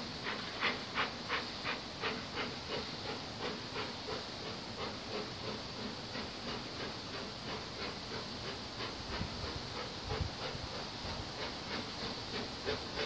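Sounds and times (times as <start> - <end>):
distant steam locomotive chuffing: 0.0 - 13.0.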